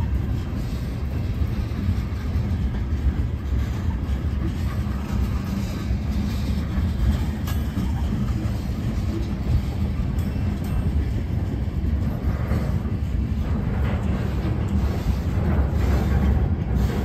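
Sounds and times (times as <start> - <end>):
sharp clicks of train wheels: 0.0 - 17.0
train wheels rumbling on rail: 0.0 - 17.0.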